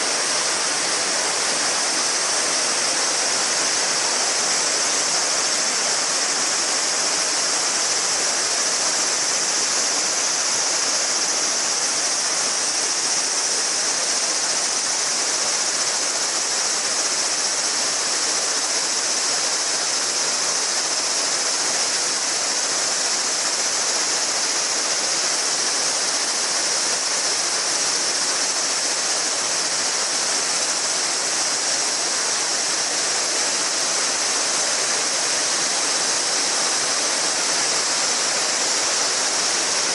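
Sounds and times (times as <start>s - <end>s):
cicadas singing: 0.0s - 39.9s
river babbling over stones: 0.0s - 39.9s.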